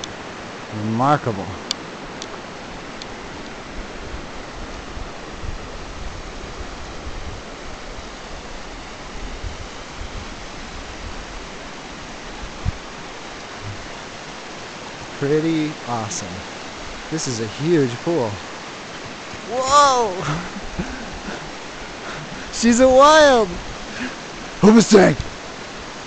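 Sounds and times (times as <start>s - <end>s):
water flowing over rocks: 0.0s - 26.0s.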